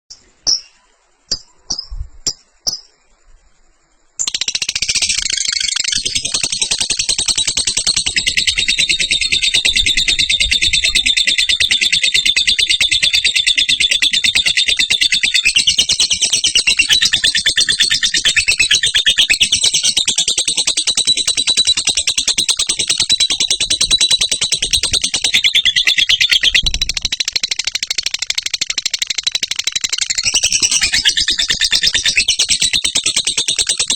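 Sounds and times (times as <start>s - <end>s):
bird chirping: 0.1s - 33.9s
rapid high-pitched chattering trill: 4.2s - 33.9s.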